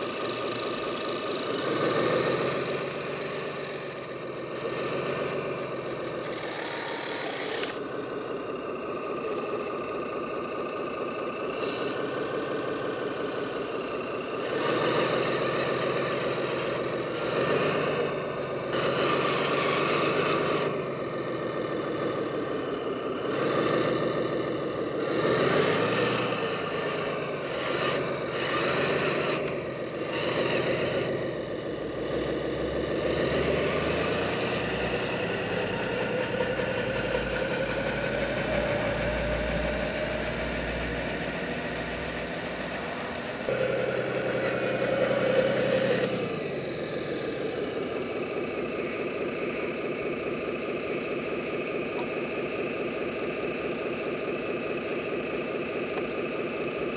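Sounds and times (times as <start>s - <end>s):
simulated diesel engine revving: 0.0s - 56.9s.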